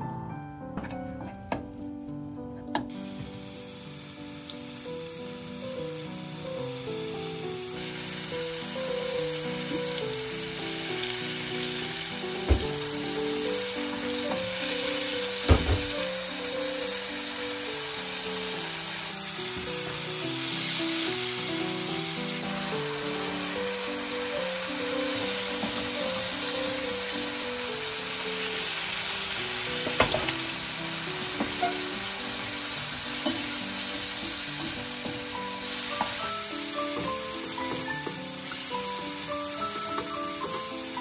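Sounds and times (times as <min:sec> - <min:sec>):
garlic sizzling in oil: 0:02.9 - 0:41.0.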